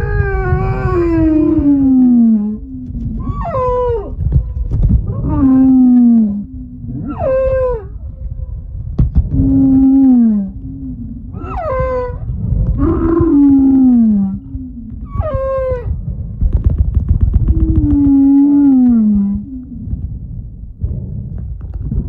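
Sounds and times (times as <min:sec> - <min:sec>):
whale moans and calls: 0:00.0 - 0:16.6, 0:17.3 - 0:22.0
low rumbling crackle: 0:00.0 - 0:22.0.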